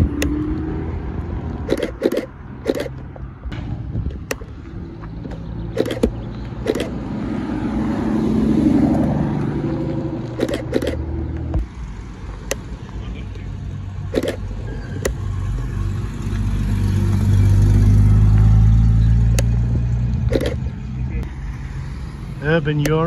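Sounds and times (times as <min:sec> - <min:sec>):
car driving away: 0:00.0 - 0:12.6, 0:13.9 - 0:23.0.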